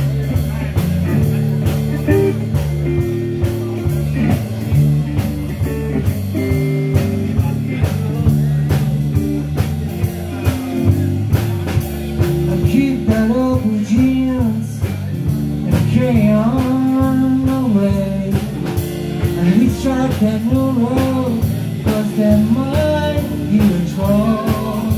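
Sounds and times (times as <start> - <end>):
drum kit beat: 0.0 - 24.9
electric bass: 0.0 - 24.9
electric guitar: 0.0 - 24.9.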